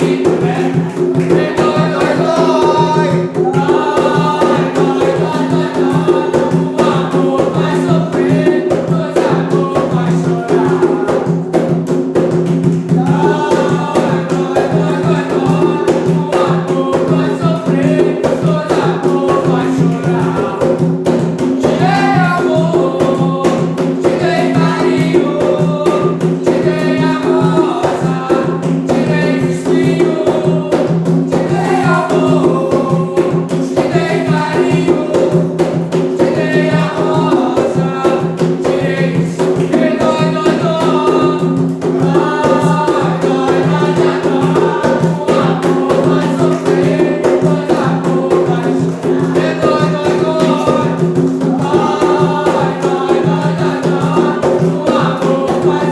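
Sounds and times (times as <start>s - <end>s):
rapid hand percussion: 0.0s - 55.9s
voices singing a ritual chant: 0.0s - 55.9s.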